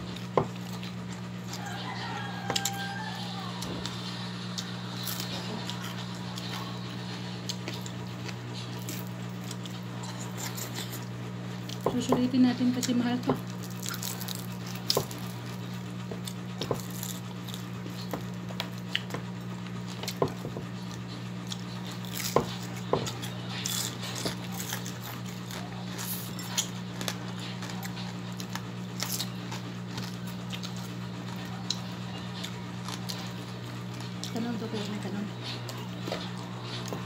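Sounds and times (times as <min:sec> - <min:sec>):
person chewing: 0:00.0 - 0:11.8, 0:13.4 - 0:34.4
steady low hum: 0:00.0 - 0:37.0.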